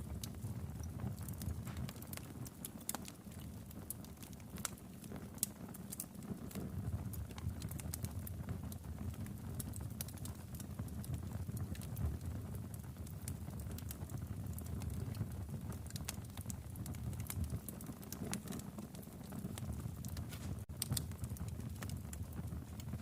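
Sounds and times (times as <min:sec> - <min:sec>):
fire pops and snaps: 0:00.0 - 0:23.0
wood fire crackling: 0:00.0 - 0:23.0.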